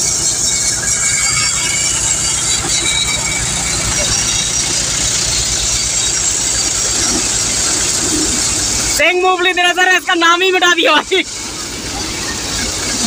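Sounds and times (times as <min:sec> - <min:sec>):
thresher running: 0:00.0 - 0:13.0
tractor diesel engine running: 0:00.0 - 0:13.0.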